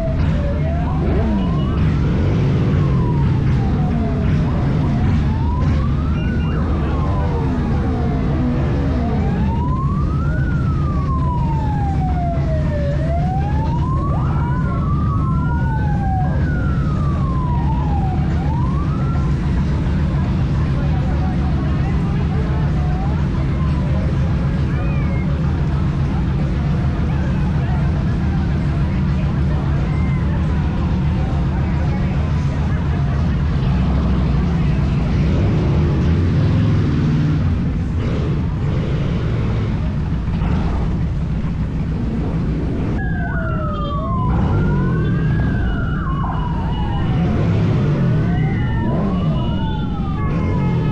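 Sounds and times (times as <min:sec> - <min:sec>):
emergency vehicle siren wailing: 0:00.0 - 0:50.9
low engine rumble: 0:00.0 - 0:50.9
second siren: 0:00.0 - 0:50.9.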